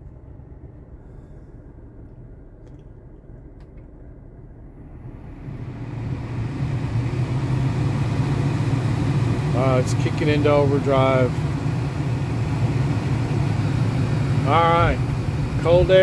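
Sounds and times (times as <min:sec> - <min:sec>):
air rushing from vents: 0:00.0 - 0:16.0
low hum: 0:00.0 - 0:16.0.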